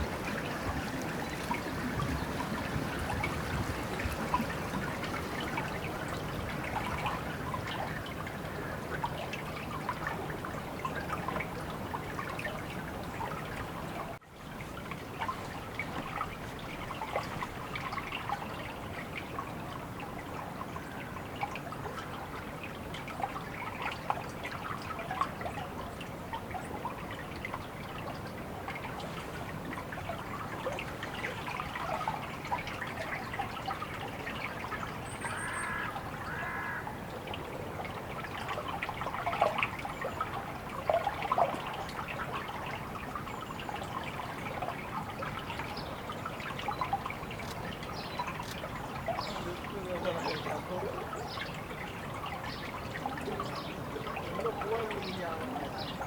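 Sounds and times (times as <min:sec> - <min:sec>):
water trickling and dripping: 0:00.0 - 0:56.0.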